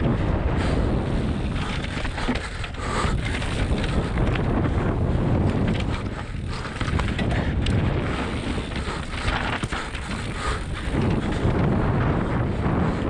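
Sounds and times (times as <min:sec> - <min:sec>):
tyres rolling on loose dirt: 0:00.0 - 0:12.4
bike rattling over bumps: 0:00.0 - 0:13.0
wind buffeting microphone: 0:00.0 - 0:13.0.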